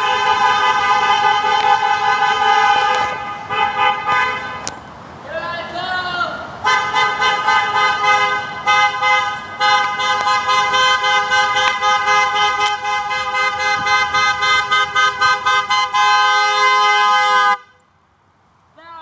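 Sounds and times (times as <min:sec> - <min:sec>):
car horn honking: 0:00.0 - 0:04.8, 0:06.6 - 0:17.9.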